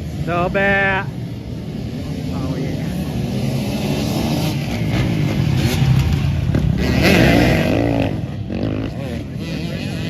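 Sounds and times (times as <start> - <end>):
motorcycles revving past: 0.0 - 10.0.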